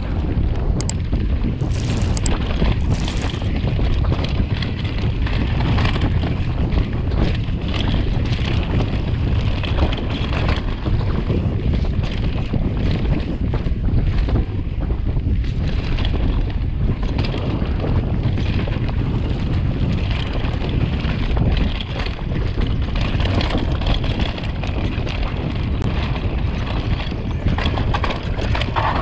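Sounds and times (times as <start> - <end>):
bike clicks and rattles: 0.0 - 29.0
wind rushing over microphone: 0.0 - 29.0.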